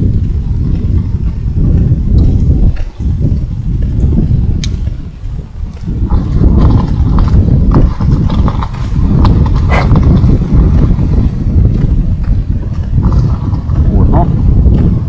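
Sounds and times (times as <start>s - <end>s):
low rumble of fire: 0.0s - 15.0s.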